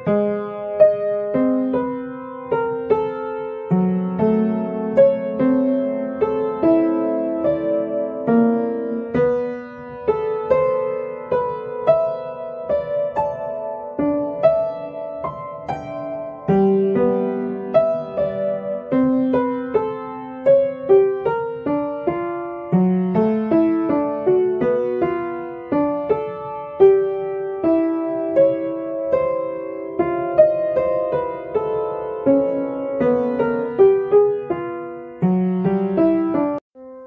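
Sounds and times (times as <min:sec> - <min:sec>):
solo piano music: 0:00.0 - 0:37.0.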